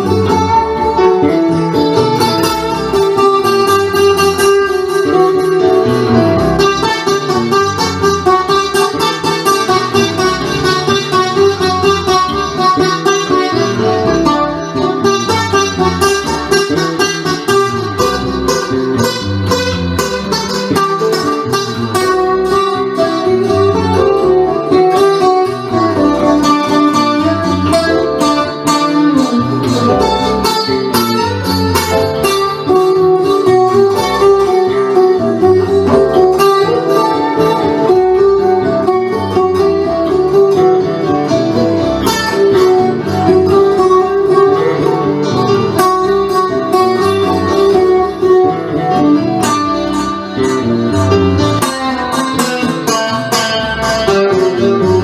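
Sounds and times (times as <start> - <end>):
instrumental guitar music: 0.0 - 55.0.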